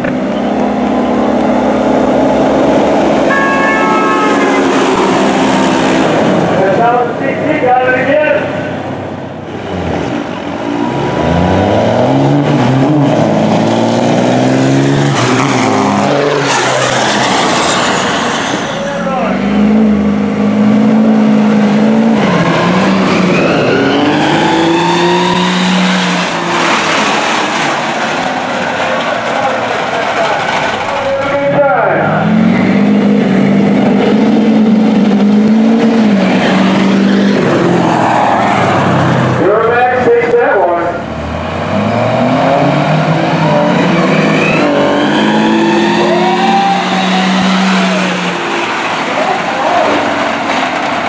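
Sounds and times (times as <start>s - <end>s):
rush of engine and tyre noise: 0.0s - 51.0s
truck engine revving: 0.0s - 51.0s.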